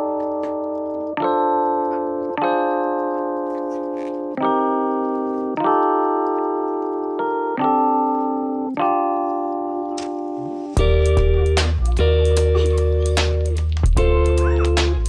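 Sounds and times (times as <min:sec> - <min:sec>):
keyboard playing slow chords: 0:00.0 - 0:15.0.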